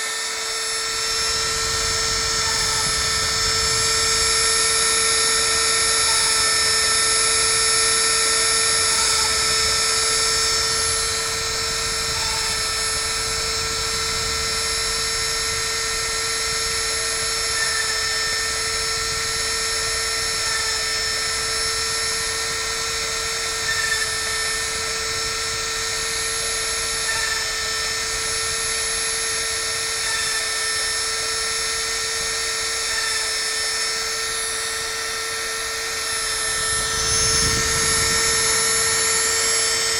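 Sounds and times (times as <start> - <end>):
high-pitched spindle whine: 0.0 - 39.9.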